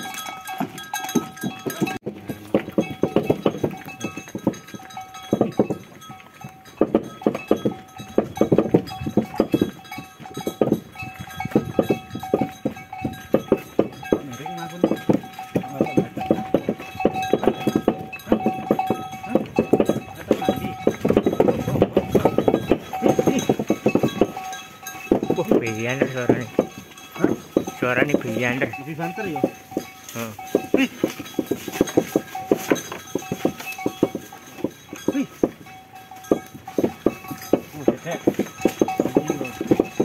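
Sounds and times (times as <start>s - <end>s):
cowbells clanking: 0.0s - 40.0s.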